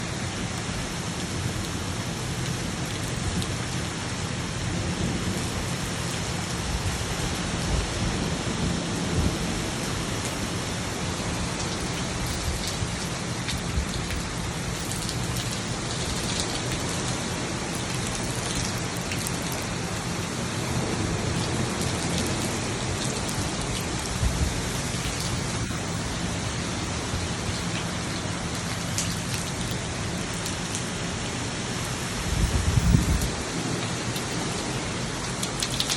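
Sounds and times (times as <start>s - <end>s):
steady rain pouring: 0.0s - 35.9s
thunder rumbling: 4.6s - 16.9s, 17.7s - 30.8s, 31.6s - 35.6s.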